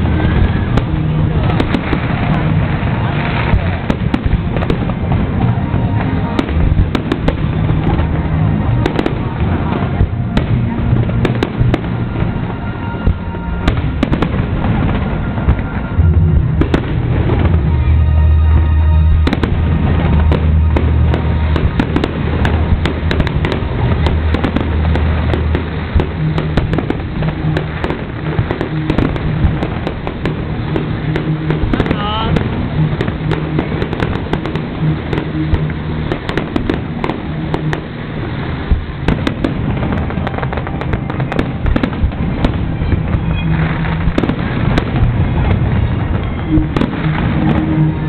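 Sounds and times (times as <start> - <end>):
deep fireworks booms: 0.0 - 48.0
fireworks bangs and crackles: 0.0 - 48.0.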